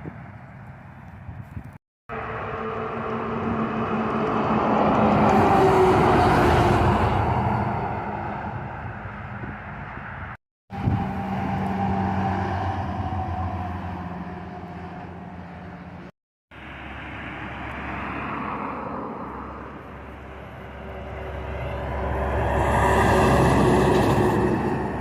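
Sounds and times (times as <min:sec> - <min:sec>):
road noise: 0:00.0 - 0:25.0
truck engine hum: 0:02.1 - 0:25.0.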